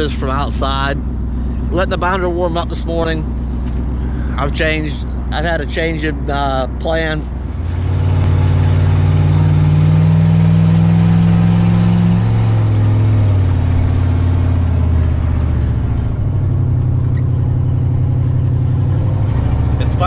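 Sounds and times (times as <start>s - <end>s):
loud engine drone: 0.0s - 20.0s.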